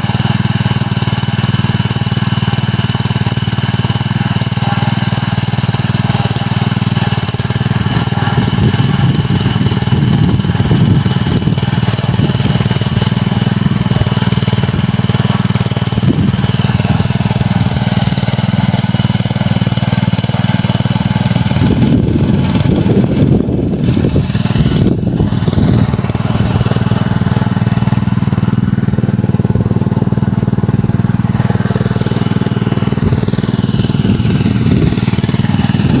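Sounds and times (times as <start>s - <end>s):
cultivator engine running: 0.0s - 36.0s.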